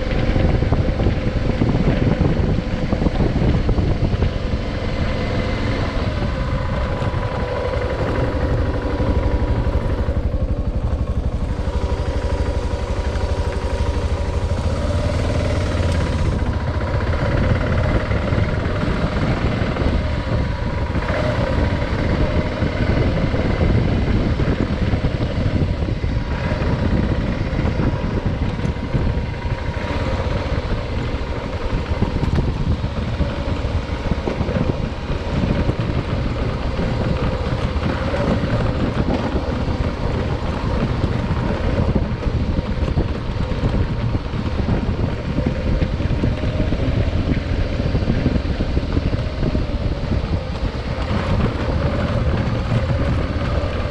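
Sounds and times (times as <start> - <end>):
motorcycle engine running: 0.0 - 53.9
wind rush on microphone: 0.0 - 53.9.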